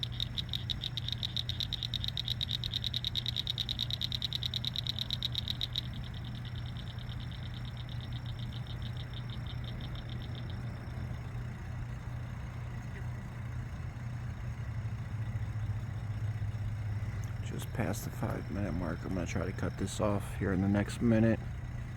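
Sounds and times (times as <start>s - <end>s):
frogs trilling: 0.0s - 21.9s
pump humming: 0.0s - 21.9s.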